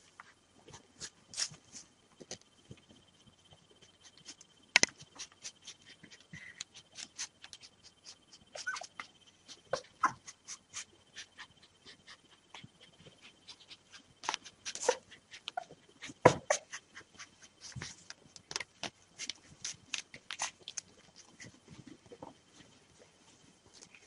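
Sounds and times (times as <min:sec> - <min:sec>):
puppies squirming on bedding: 0:00.0 - 0:24.0.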